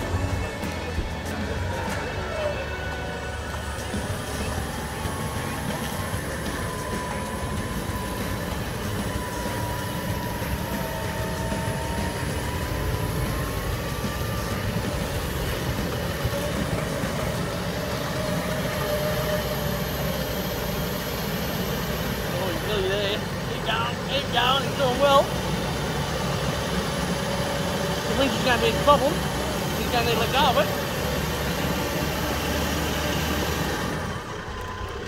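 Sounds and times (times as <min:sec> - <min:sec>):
vehicle engine rumbling: 0:00.0 - 0:35.0
winch whining: 0:00.0 - 0:35.0.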